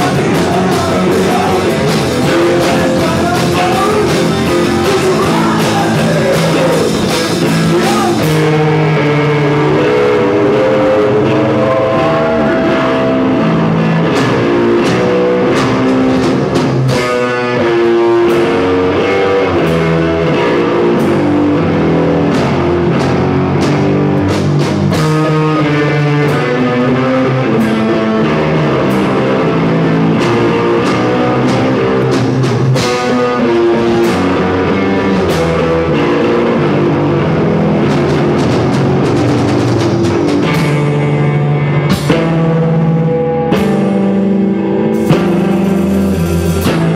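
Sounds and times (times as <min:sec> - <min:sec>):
rock music with guitar and drums: 0:00.0 - 0:46.9.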